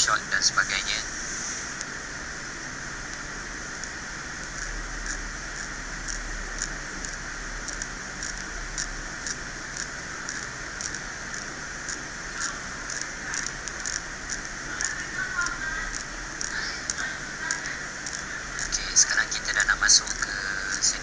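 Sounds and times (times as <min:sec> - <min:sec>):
steady hiss: 0:00.0 - 0:21.0
blade scraping circuit board: 0:03.6 - 0:21.0.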